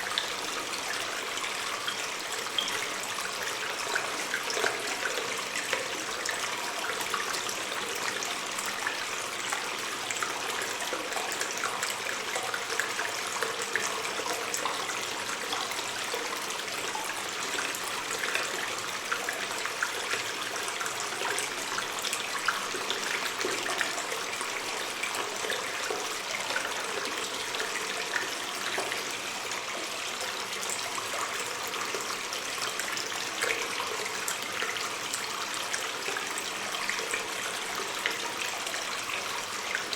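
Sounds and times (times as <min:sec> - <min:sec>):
water dripping: 0:00.0 - 0:39.9
water stream trickling and splashing: 0:00.0 - 0:39.9.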